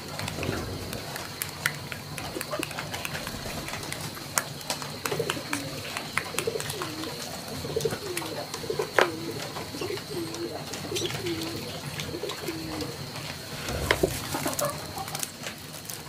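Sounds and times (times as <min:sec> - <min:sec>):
dove cooing: 0:00.0 - 0:15.3.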